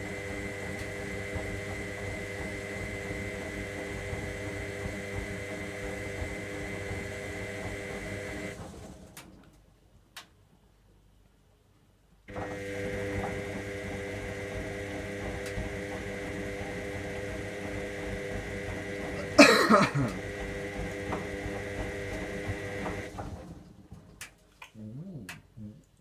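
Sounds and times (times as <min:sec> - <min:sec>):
washing machine humming: 0:00.0 - 0:09.2, 0:12.3 - 0:24.2.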